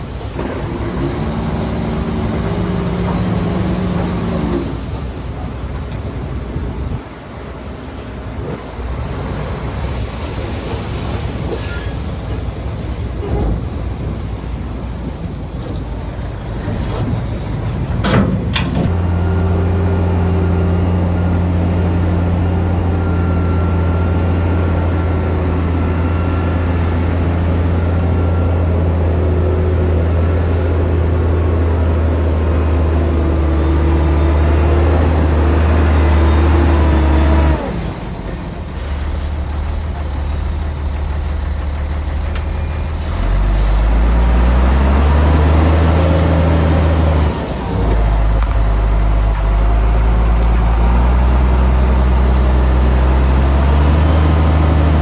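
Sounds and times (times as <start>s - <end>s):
deep diesel engine drone: 0.0s - 7.0s, 9.3s - 55.0s.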